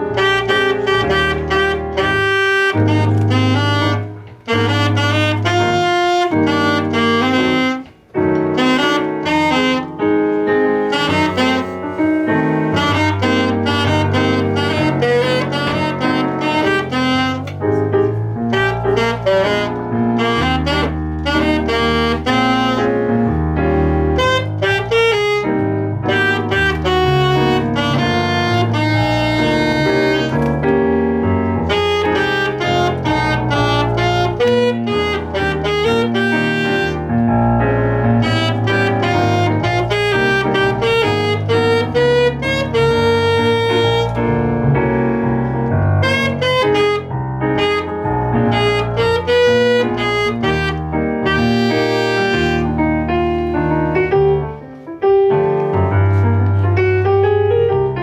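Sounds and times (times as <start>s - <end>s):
saxophone: 0.0s - 57.9s
piano: 0.0s - 58.0s
walking bass line: 0.0s - 58.0s.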